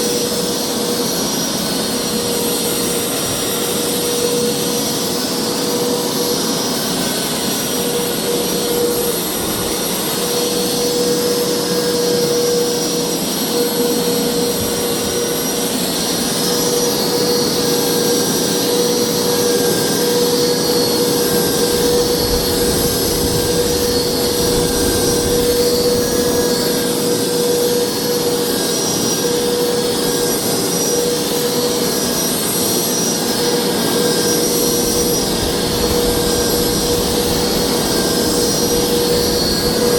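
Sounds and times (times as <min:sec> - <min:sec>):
carpet cleaner motor whining: 0:00.0 - 0:39.9.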